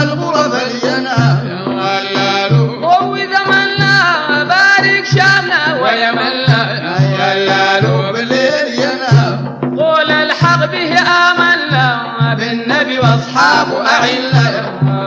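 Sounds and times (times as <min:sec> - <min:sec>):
deep drum beating: 0:00.0 - 0:15.0
men singing: 0:00.0 - 0:15.0.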